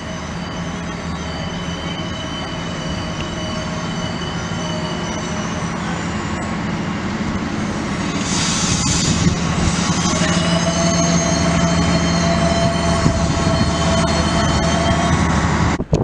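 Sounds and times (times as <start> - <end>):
high squeal of wheels: 0.0 - 7.0, 8.1 - 15.4
train engine hum and whine: 0.0 - 16.0.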